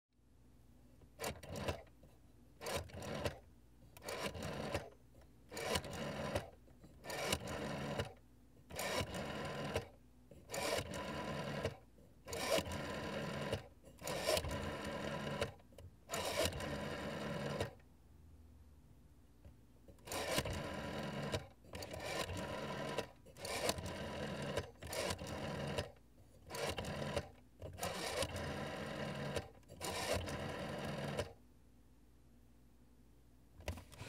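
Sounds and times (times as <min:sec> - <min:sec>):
rotary dial whirring and clicking: 0:01.0 - 0:02.0, 0:02.6 - 0:17.9, 0:19.4 - 0:31.4.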